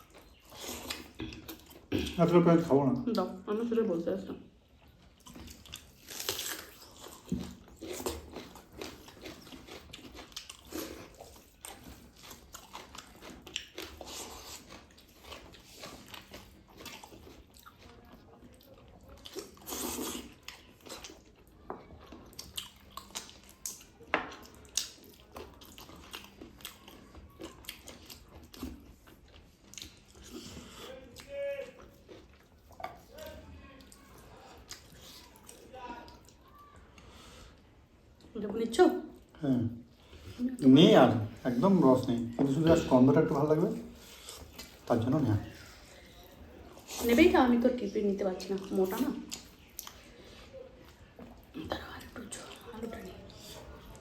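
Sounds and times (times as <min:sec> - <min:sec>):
chewing and smacking: 0:00.0 - 0:02.0, 0:04.3 - 0:38.4, 0:39.1 - 0:54.0.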